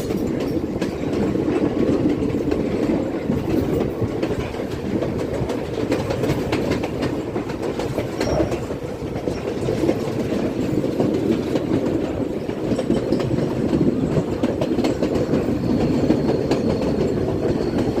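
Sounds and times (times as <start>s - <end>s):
train rumbling on rails: 0.0s - 18.0s
wheel clatter on track joints: 0.0s - 18.0s.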